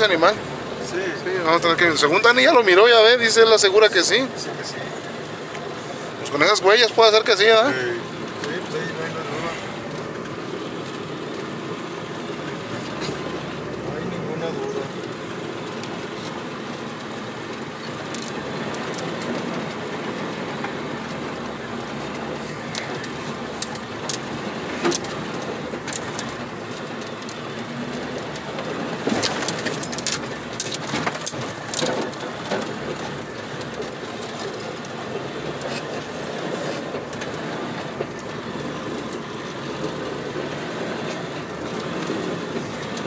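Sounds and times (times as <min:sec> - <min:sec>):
tyres and suspension rumble: 0:00.0 - 0:43.0
vehicle rattles and knocks: 0:00.0 - 0:43.0.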